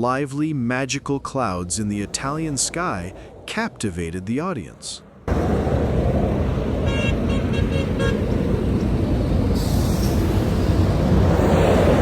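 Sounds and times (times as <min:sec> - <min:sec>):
road traffic rumble: 0:00.1 - 0:12.0.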